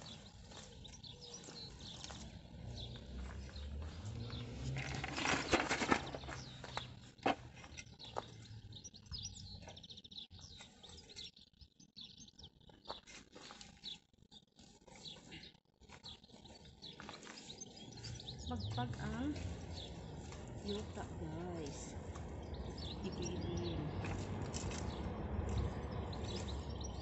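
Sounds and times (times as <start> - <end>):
rustling and scraping of weeding: 0.0 - 11.6, 12.2 - 27.0
songbirds chirping: 0.0 - 27.0.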